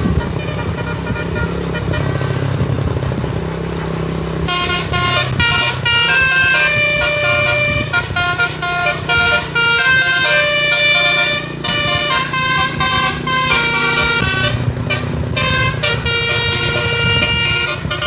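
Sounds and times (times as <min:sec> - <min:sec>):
musical air horn playing a tune: 0:00.0 - 0:02.7, 0:04.4 - 0:18.0
bus engine humming: 0:00.0 - 0:18.0.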